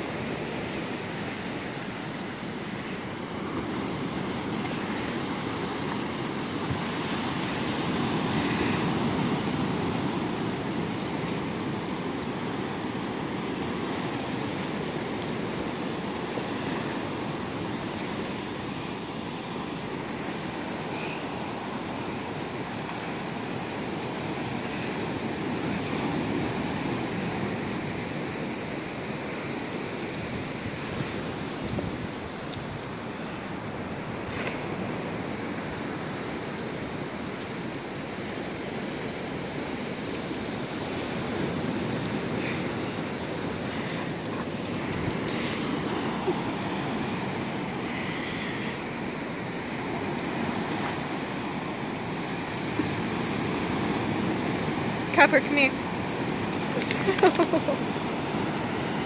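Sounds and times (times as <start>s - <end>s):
ocean surf breaking on rocks: 0.0s - 59.0s.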